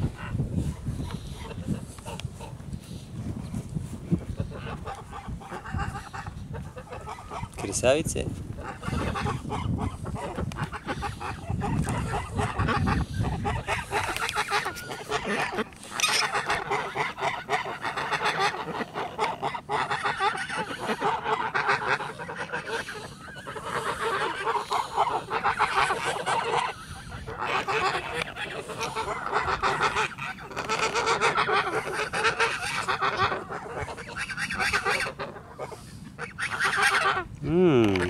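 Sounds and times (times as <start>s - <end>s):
ducks quacking: 0.0s - 2.6s, 4.1s - 38.0s
geese honking: 4.2s - 37.3s.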